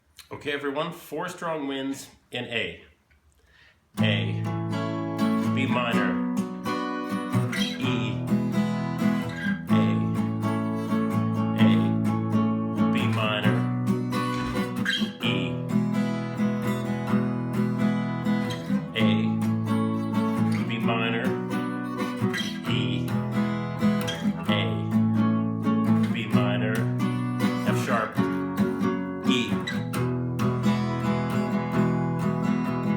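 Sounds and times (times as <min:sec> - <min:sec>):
acoustic guitar strumming chords: 0:04.0 - 0:32.9.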